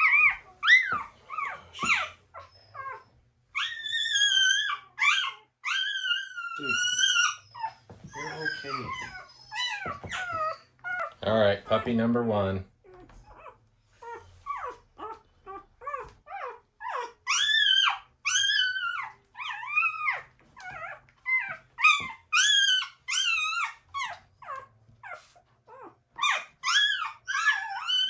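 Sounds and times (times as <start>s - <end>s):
puppy crying: 0.0s - 12.0s, 12.8s - 28.0s.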